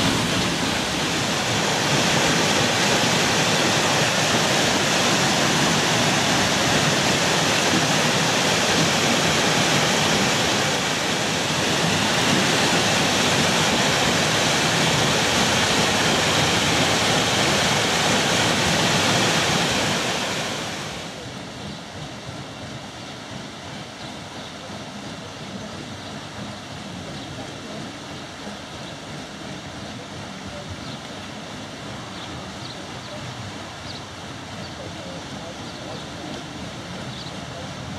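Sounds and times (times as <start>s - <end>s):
water rushing at a mill wheel: 0.0s - 37.9s.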